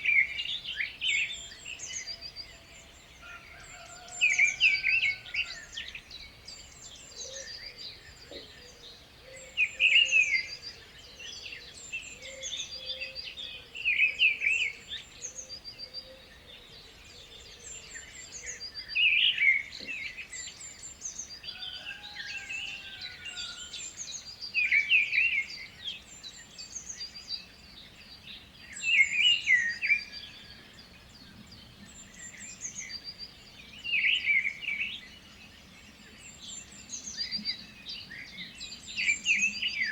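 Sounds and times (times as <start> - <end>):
bird song phrase: 0.0 - 39.9.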